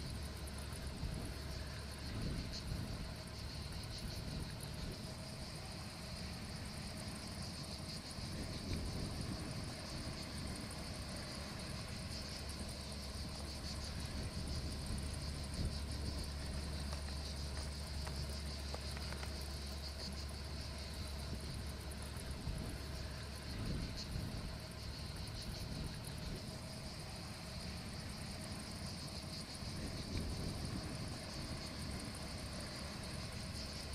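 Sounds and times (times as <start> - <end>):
insects trilling: 0.0 - 33.9
low steady rumble: 0.0 - 33.9.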